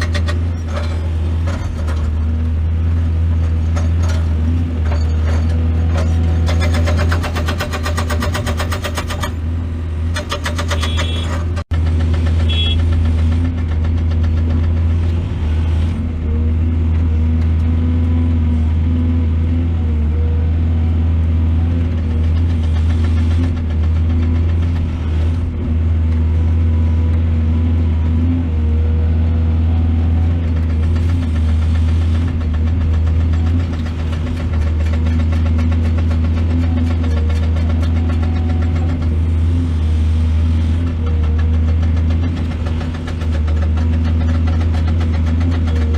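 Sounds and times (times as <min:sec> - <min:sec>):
heavy diesel engine droning: 0:00.0 - 0:45.9.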